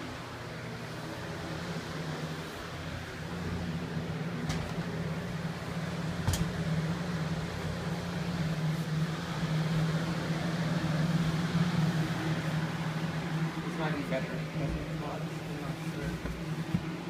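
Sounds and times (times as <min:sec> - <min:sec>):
box fan humming: 0:00.0 - 0:17.0.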